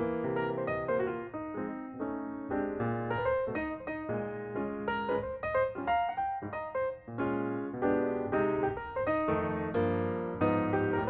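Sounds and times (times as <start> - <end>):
piano chords and bass line: 0.0 - 11.0.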